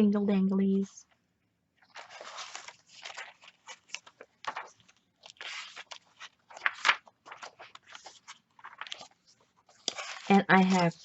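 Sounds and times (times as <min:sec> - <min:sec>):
paper rustling and crinkling: 0:01.8 - 0:11.0.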